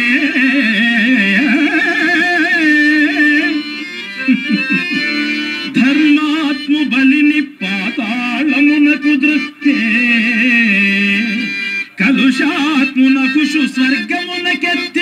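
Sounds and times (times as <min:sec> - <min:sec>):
harmonium notes: 0:00.0 - 0:15.0
man singing: 0:00.0 - 0:15.0.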